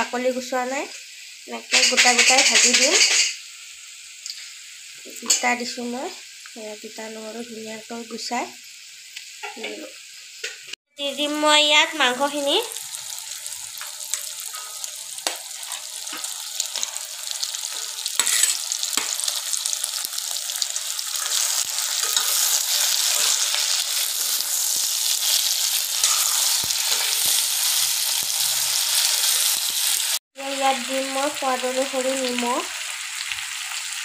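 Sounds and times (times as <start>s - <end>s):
meat sizzling in hot oil: 0.0s - 34.0s.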